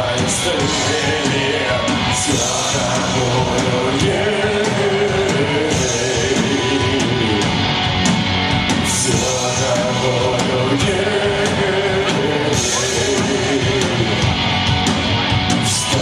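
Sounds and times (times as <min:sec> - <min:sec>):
drums with cymbal hits: 0:00.0 - 0:16.0
electric guitars: 0:00.0 - 0:16.0.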